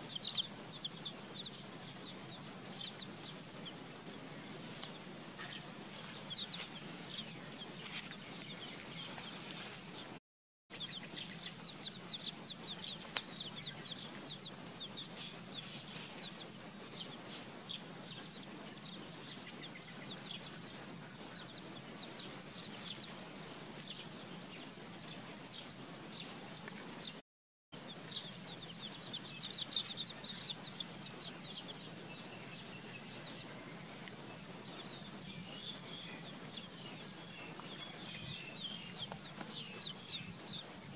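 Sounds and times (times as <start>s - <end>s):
chicks peeping: 0.0s - 27.2s, 27.8s - 40.9s.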